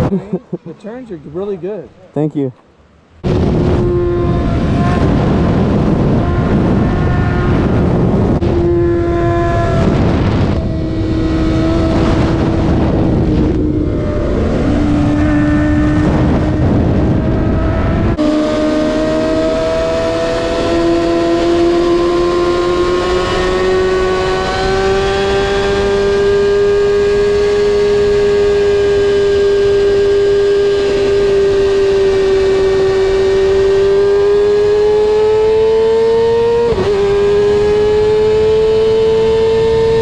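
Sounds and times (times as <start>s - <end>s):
motorcycle engine at high revs: 3.2s - 40.0s.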